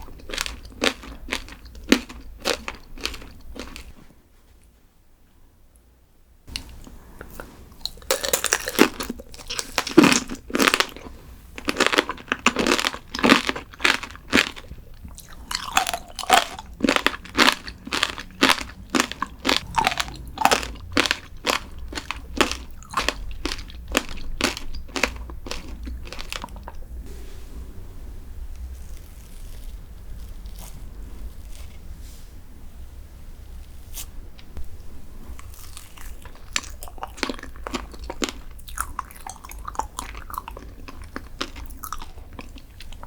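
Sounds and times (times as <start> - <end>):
person chewing crunchy food: 0.0 - 4.0, 6.5 - 27.0, 28.8 - 31.9, 35.2 - 43.0.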